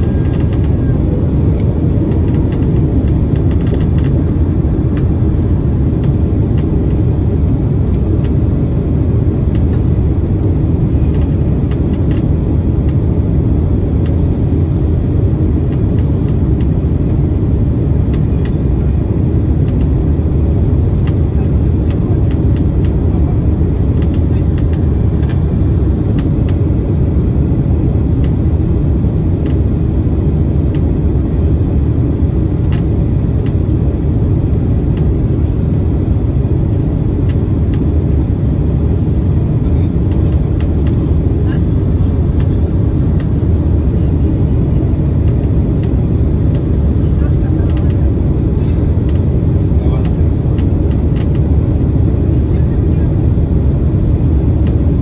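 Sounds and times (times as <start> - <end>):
jet airliner cabin roar: 0.0 - 55.0.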